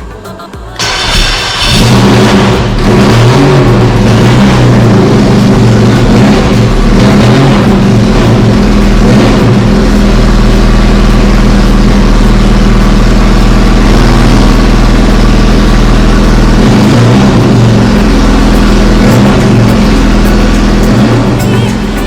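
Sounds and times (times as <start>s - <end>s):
race engine running loud: 0.8s - 22.0s.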